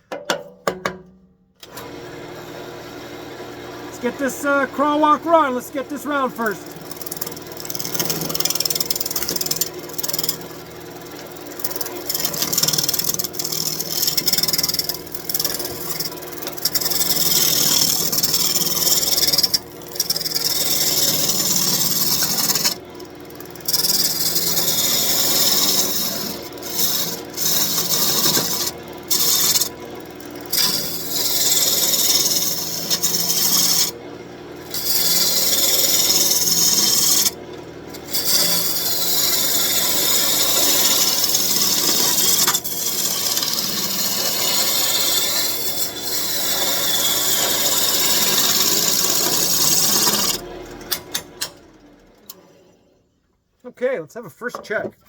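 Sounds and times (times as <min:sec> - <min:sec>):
lathe humming: 0:01.6 - 0:52.4
gouge rasping on spinning wood: 0:04.0 - 0:29.8, 0:30.4 - 0:34.0, 0:34.6 - 0:37.4, 0:38.0 - 0:50.4.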